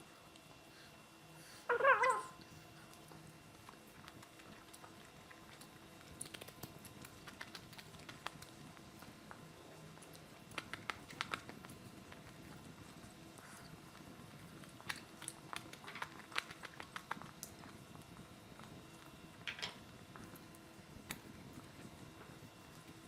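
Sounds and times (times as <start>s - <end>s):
chewing with wet smacks: 2.4s - 23.0s.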